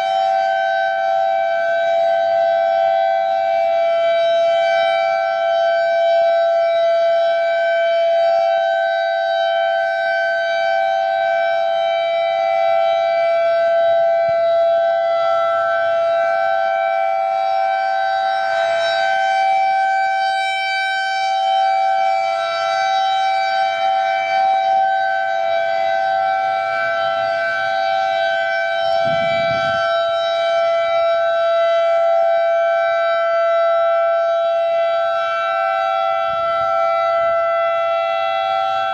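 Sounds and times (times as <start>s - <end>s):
warning sirens on steady tone: 0.0s - 38.9s.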